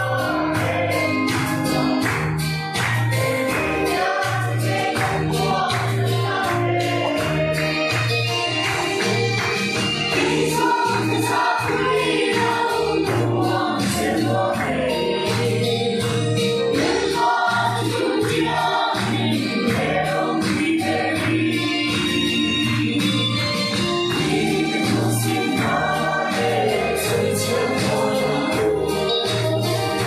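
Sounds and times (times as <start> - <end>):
children's choir singing: 0.0 - 2.4, 3.5 - 30.0.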